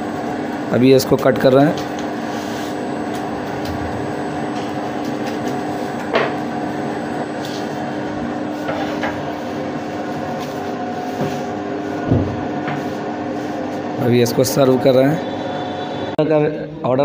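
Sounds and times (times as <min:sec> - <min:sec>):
kitchen equipment humming: 0:00.0 - 0:16.3.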